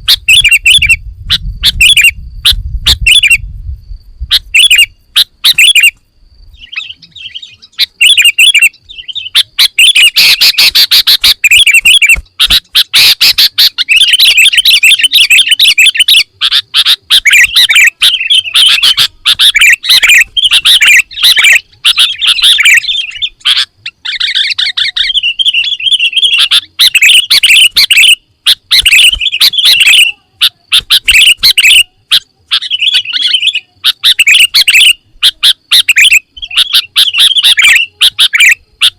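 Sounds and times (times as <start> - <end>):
bird singing chirping notes: 0.0 - 3.6, 4.2 - 38.9.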